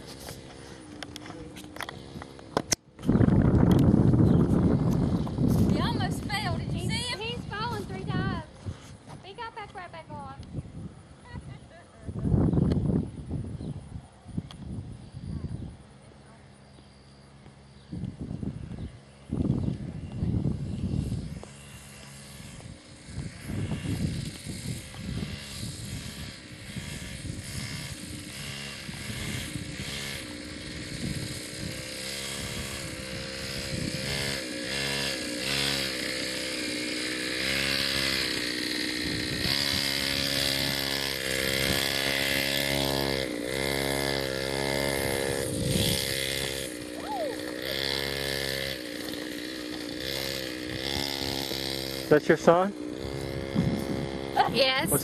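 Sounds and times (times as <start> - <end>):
two-stroke dirt bike engine revving: 0.0 - 10.4, 15.6 - 55.0.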